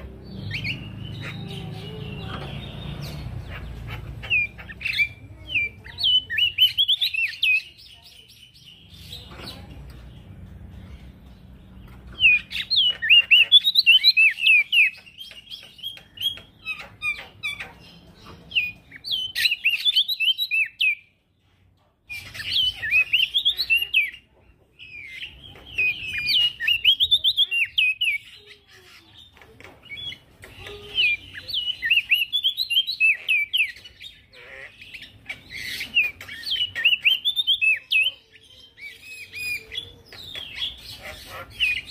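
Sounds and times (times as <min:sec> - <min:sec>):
bird singing fast chattering notes: 0:00.0 - 0:21.2, 0:22.1 - 0:41.9.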